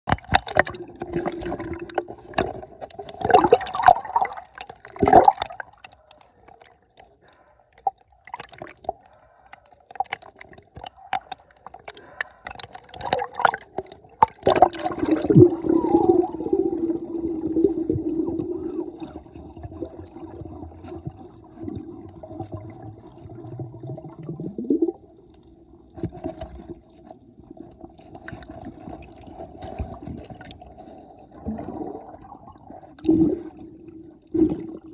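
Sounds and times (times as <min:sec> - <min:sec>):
sea water sloshing and splashing: 0:00.1 - 0:34.9.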